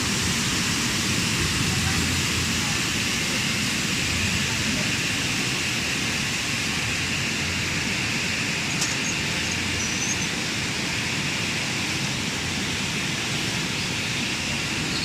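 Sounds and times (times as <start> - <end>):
churning spraying water: 0.0 - 15.0.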